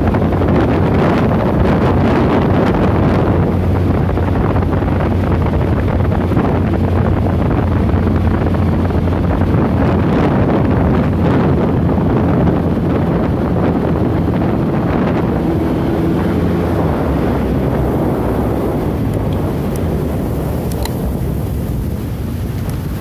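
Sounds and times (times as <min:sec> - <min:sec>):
boat engine running: 0:00.0 - 0:23.0
wind buffeting microphone: 0:00.0 - 0:23.0.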